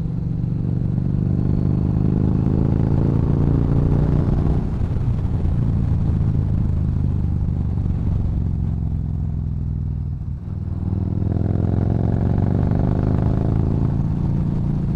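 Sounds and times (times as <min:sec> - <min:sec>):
motorcycle engine cruising: 0:00.0 - 0:14.9.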